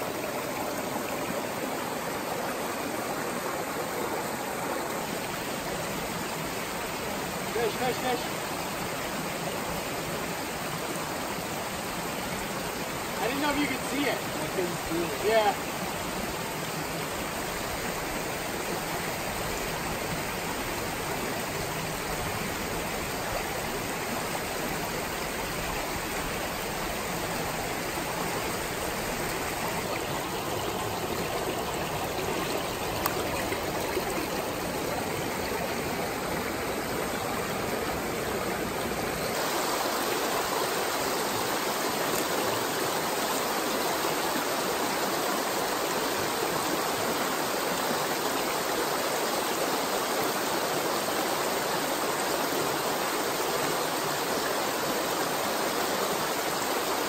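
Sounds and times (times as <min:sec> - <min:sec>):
creek rushing over stones: 0:00.0 - 0:57.0.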